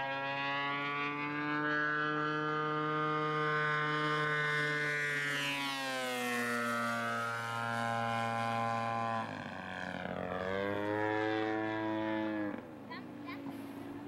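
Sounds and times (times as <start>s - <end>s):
model plane engine and propeller: 0.0s - 14.0s.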